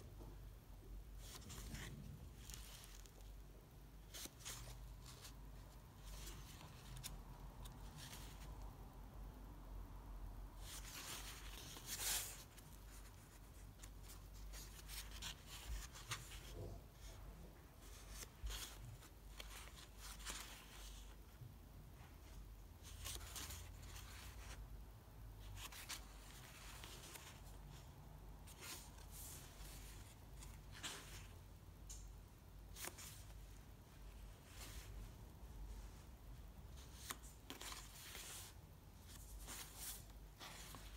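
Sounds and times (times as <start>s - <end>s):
sketchbook pages rustling: 1.2s - 8.7s, 10.6s - 17.2s, 17.8s - 24.8s, 25.4s - 32.0s, 32.6s - 36.1s, 36.7s - 40.9s.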